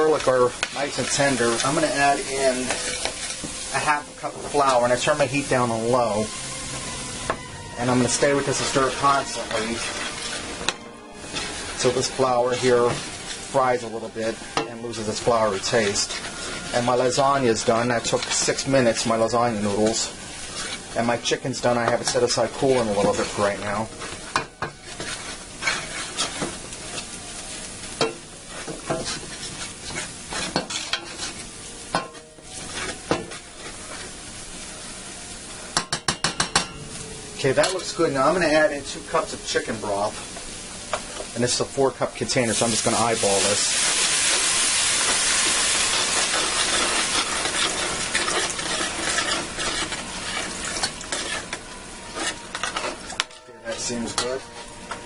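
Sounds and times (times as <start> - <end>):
spatula scraping frying pan: 0.0 - 34.9, 42.3 - 55.0
low sizzle of frying: 0.0 - 55.0.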